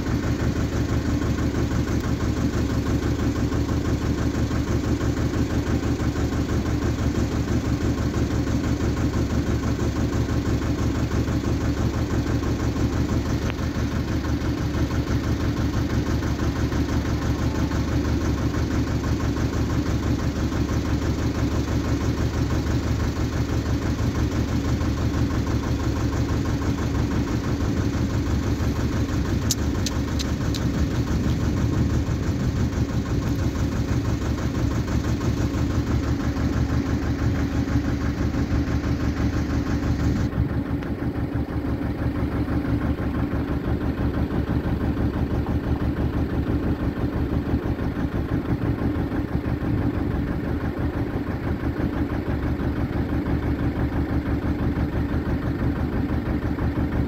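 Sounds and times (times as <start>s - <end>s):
boat engine throbbing: 0.0s - 57.0s.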